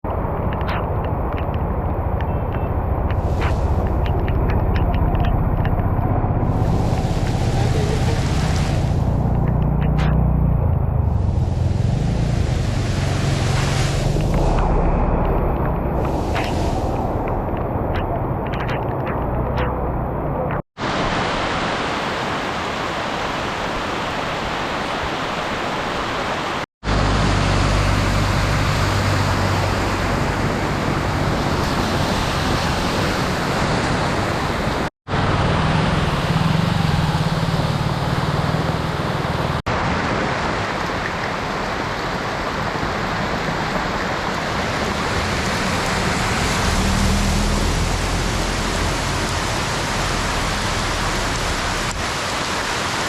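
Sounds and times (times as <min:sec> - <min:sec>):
vehicle engine hum: 0:00.1 - 0:20.6, 0:26.8 - 0:53.0
heavy rain pouring: 0:00.1 - 0:53.0.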